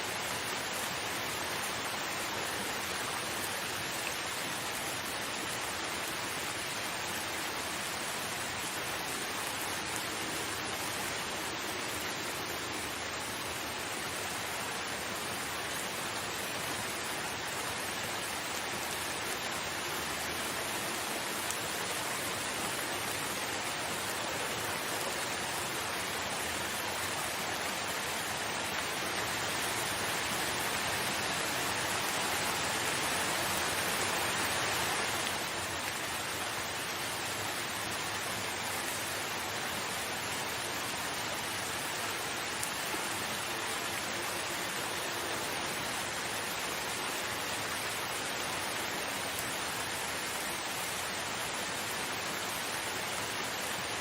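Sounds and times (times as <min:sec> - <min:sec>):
dense rain falling: 0:00.0 - 0:54.0.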